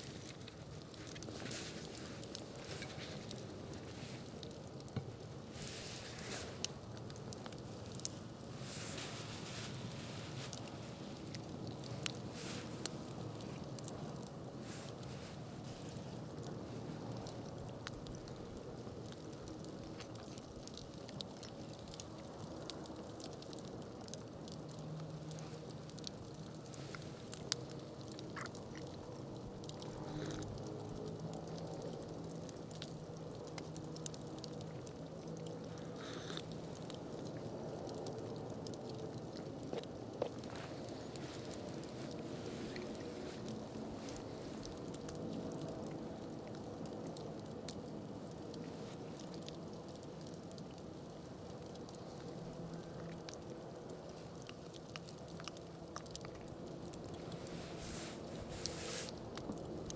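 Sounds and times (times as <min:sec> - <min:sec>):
campfire crackling and hissing: 0:00.0 - 0:59.9.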